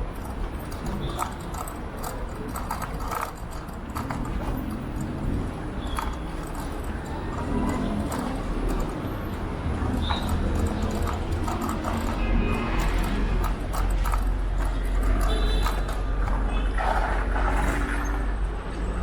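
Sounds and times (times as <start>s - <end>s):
clicking and rattling knocks: 0.0s - 17.2s
road noise: 0.0s - 19.0s.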